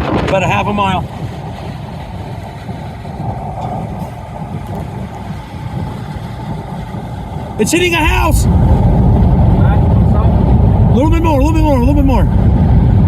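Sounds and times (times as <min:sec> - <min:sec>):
road noise inside cabin: 0:00.0 - 0:13.0
vehicle engine rumble: 0:00.0 - 0:13.0.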